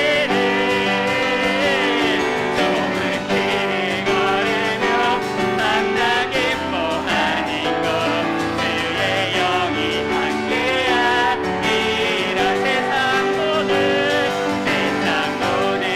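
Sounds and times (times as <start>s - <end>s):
keyboard chords: 0.0s - 15.9s
worship team singing a hymn: 0.0s - 15.9s.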